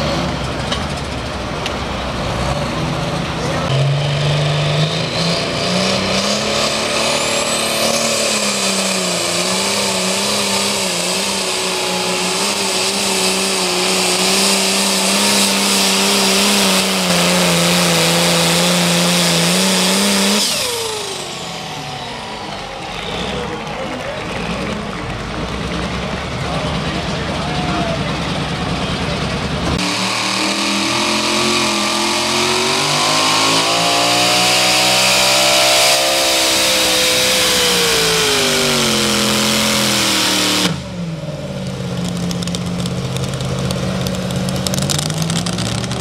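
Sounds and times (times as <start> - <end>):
loud rushing noise: 0.0 - 41.2
engine at full throttle: 0.0 - 46.0.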